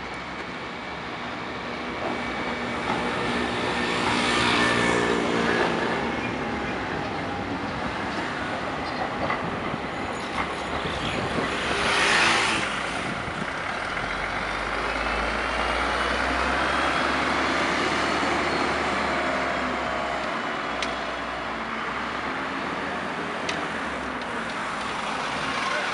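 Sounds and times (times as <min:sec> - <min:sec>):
bus engine rumbling past: 0:00.0 - 0:25.9.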